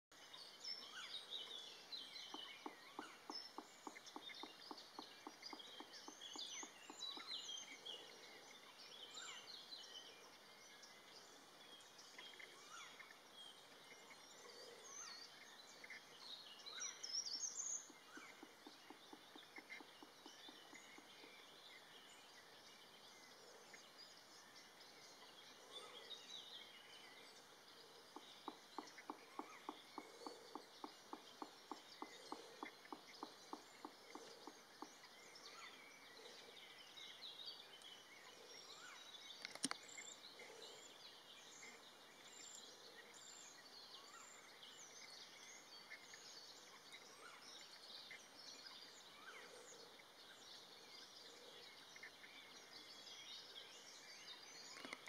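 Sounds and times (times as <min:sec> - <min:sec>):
small birds chirping: 0:00.1 - 0:55.0.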